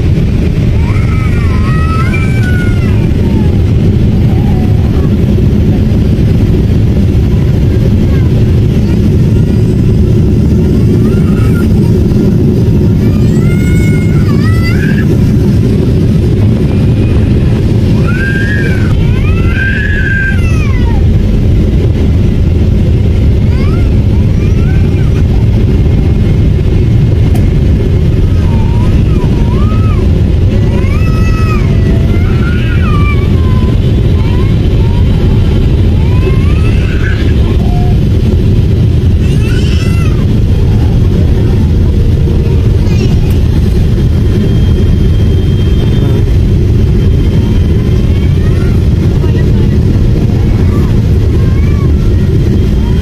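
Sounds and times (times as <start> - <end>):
airliner cabin engine rumble: 0.0 - 53.0
faint voices: 0.0 - 53.0.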